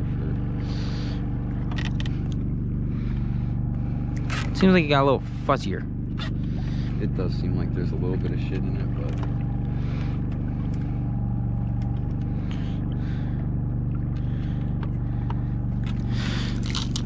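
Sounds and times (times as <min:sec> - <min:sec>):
small boat engine humming: 0:00.0 - 0:17.0.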